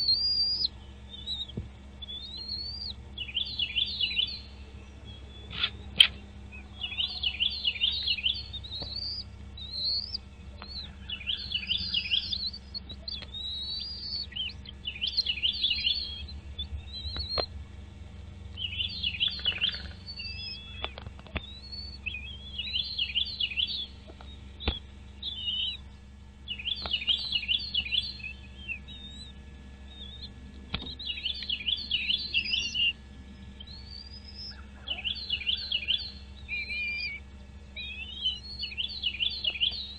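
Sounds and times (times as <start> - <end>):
bird chirping rapidly: 0.0 - 17.5, 18.6 - 25.8, 26.5 - 37.2, 37.8 - 39.9.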